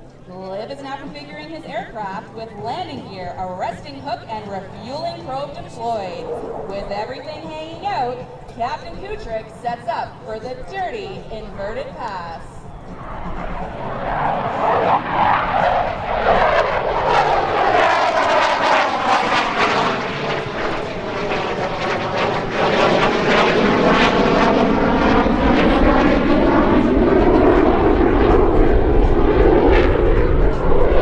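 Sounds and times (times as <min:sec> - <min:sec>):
jet engines passing low: 0:00.0 - 0:31.0.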